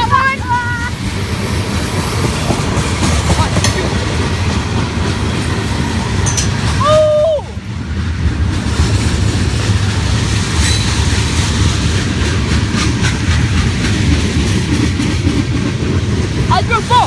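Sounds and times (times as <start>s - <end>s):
wheels clicking over rail joints: 0.0s - 7.2s, 8.0s - 17.0s
train cars rumbling past: 0.0s - 17.0s.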